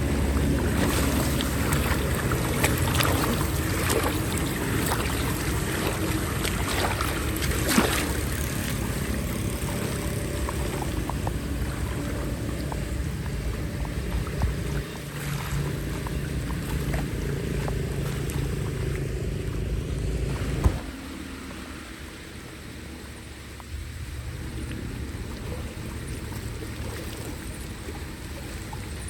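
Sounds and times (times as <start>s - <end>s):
floodwater flowing into drain: 0.0s - 29.0s.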